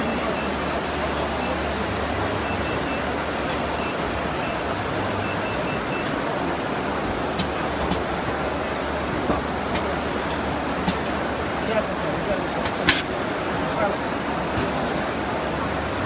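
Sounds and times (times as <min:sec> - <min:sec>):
screen-printing machine running: 0:00.0 - 0:16.0.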